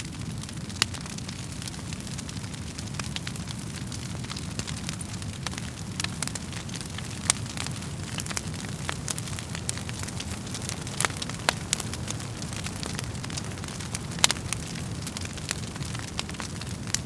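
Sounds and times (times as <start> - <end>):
fire popping and snapping: 0.0 - 17.0
wood fire crackling: 0.0 - 17.0.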